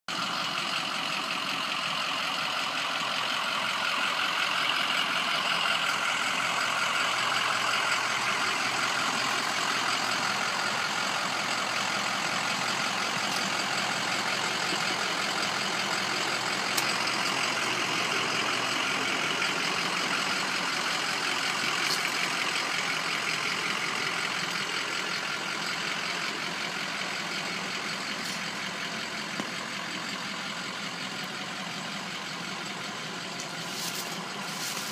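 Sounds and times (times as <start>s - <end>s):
pickup truck engine running: 0.1s - 34.9s.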